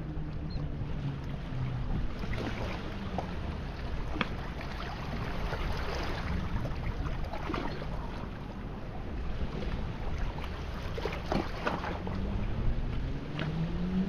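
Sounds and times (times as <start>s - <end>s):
wind rumbling on microphone: 0.0s - 14.0s
waves lapping on rocks: 1.0s - 12.4s.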